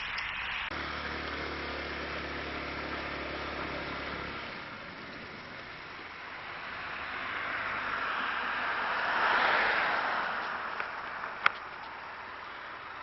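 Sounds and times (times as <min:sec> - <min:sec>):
vehicle engine idling: 0:00.0 - 0:09.2, 0:09.8 - 0:13.0.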